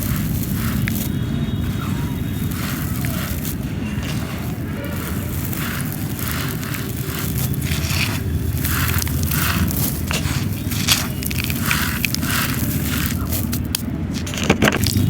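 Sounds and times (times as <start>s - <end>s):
dry clay crunching: 0.0s - 15.0s
steady low rumble: 0.0s - 15.0s.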